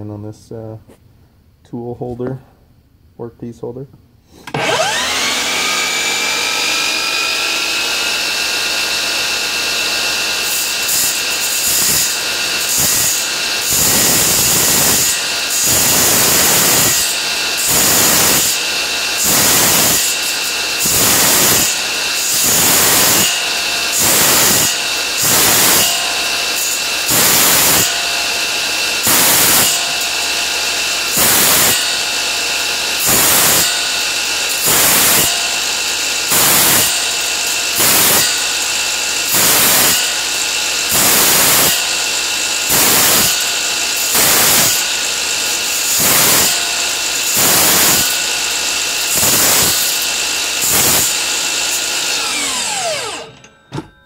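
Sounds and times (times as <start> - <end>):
saw blade grinding metal rod: 4.3 - 53.8
miter saw whining: 4.3 - 54.0.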